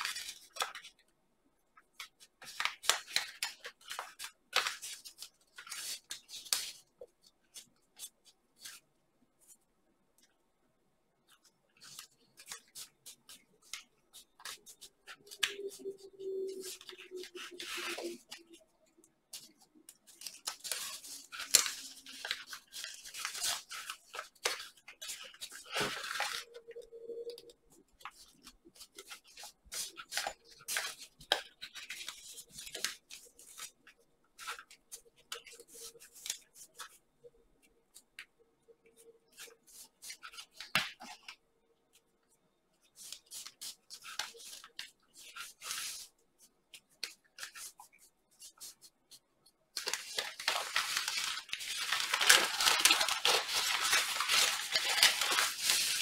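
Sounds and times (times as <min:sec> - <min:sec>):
paper crinkling and crackling: 0:00.0 - 0:01.1, 0:01.8 - 0:09.6, 0:11.3 - 0:56.0.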